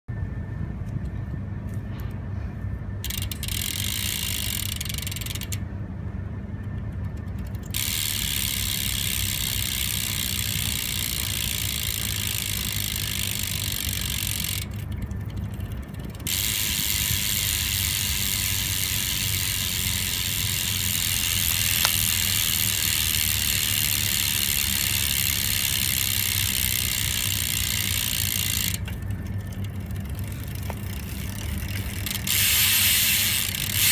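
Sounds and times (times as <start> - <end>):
low hum: 0.1 - 33.9
bicycle hub ratchet buzzing: 3.0 - 5.7, 6.7 - 33.9.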